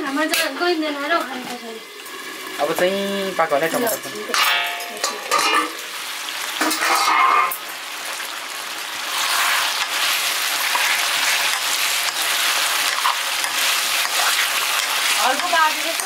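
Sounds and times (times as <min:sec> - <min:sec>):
curry sizzling in a pan: 0:00.0 - 0:16.0.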